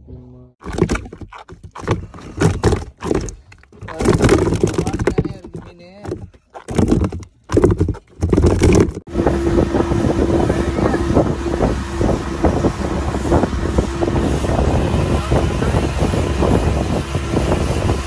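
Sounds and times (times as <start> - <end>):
boat engine running: 0.0 - 18.0
water and wind noise: 0.6 - 18.0.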